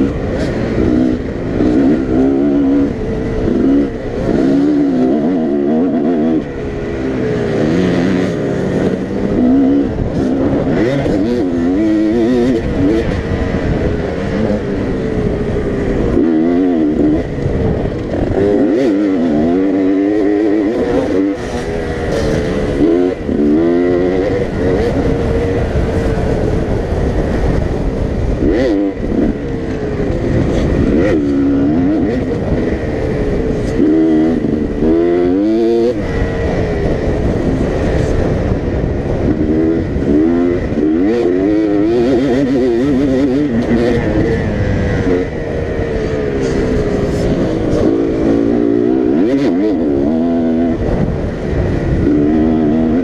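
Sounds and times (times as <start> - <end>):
dirt bike engine revving: 0.0 - 53.0
wind rushing over microphone: 0.0 - 53.0.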